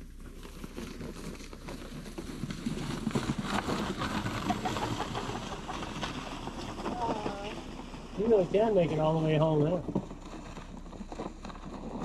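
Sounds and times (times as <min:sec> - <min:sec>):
sled sliding on snow: 0:00.0 - 0:12.0.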